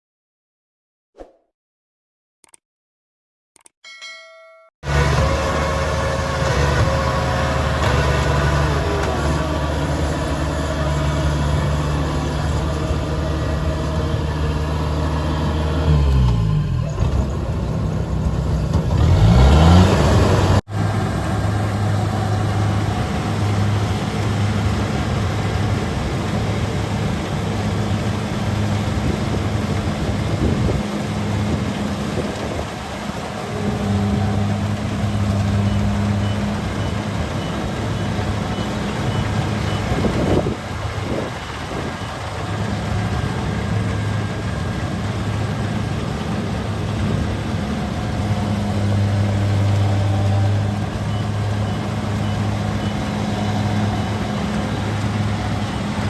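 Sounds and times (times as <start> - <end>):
combine harvester running: 4.8 - 56.0.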